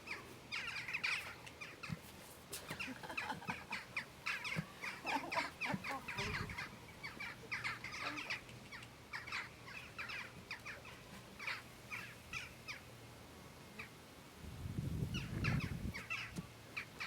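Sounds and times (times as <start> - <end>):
birds chirping and calling: 0.0 - 12.9, 14.9 - 17.0.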